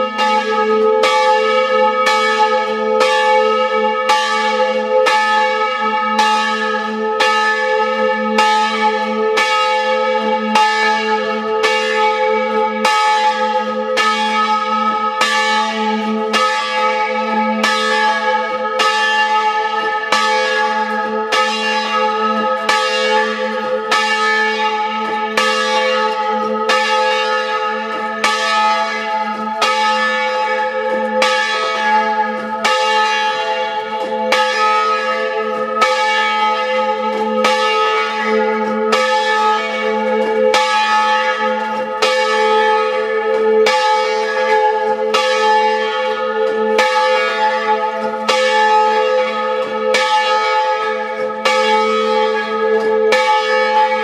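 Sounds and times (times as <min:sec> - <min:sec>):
church bell clapper strikes: 0:00.0 - 0:54.0
ringing hum of bells: 0:00.0 - 0:54.0.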